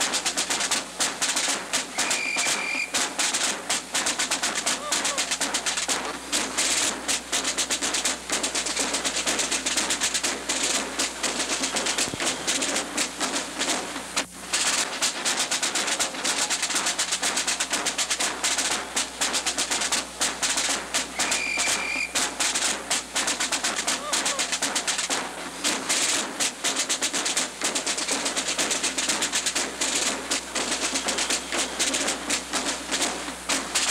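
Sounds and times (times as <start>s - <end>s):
rapid percussive clattering: 0.0s - 33.9s.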